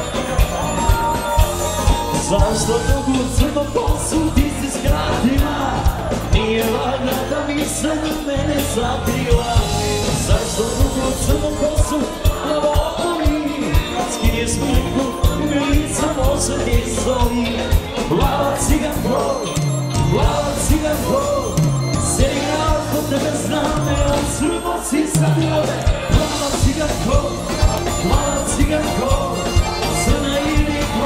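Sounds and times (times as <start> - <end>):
lead vocal singing: 0.0 - 31.0
live band playing dance music: 0.0 - 31.0
steady drum beat: 0.0 - 31.0.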